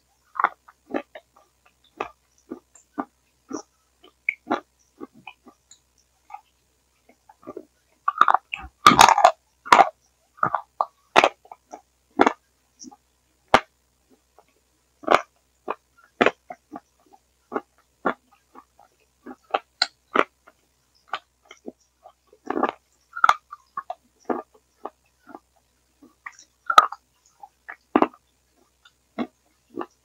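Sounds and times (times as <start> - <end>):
garbled wet eating mouth sounds: 0.3 - 13.0, 13.6 - 30.0.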